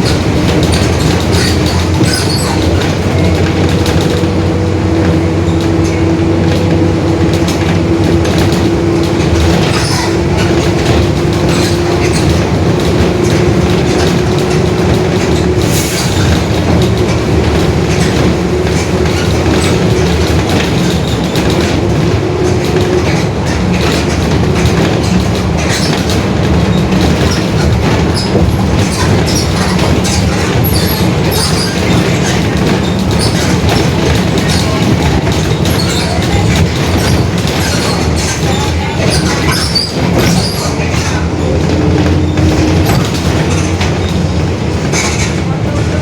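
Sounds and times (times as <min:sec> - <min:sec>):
rattles: 0:00.0 - 0:45.4
bus diesel engine droning: 0:00.0 - 0:46.0.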